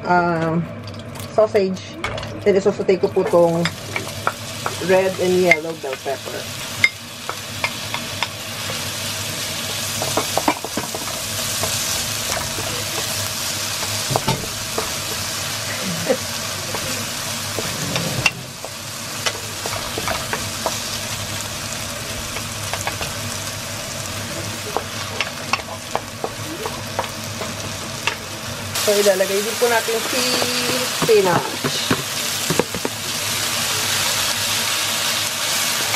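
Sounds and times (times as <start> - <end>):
peppers sizzling in a frying pan: 0.0 - 35.9.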